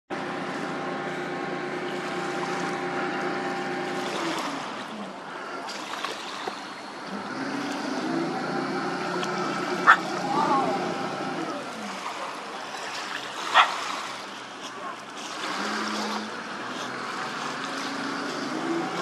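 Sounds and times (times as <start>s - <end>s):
boat engine running hard: 0.1s - 19.0s.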